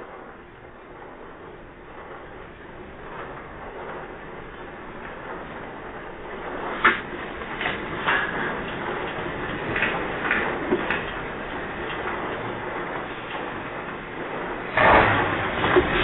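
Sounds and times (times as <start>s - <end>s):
earthquake rumbling: 0.0s - 16.0s
sharp knocks and rattles: 0.0s - 16.0s.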